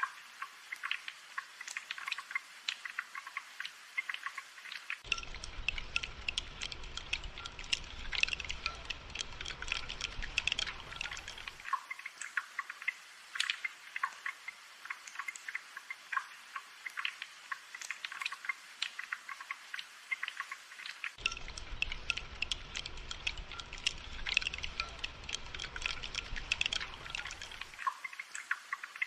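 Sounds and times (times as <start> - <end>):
rain dripping: 0.0 - 29.0.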